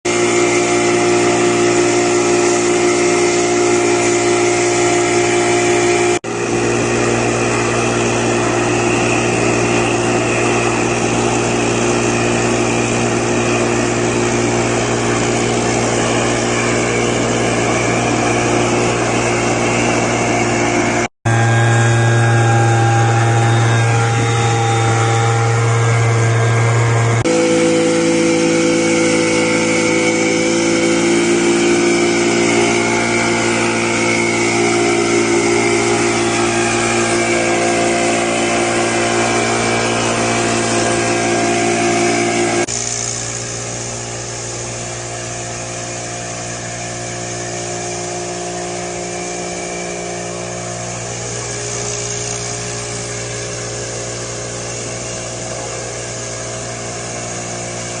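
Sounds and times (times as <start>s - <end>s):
backpack blower running: 0.0s - 58.0s.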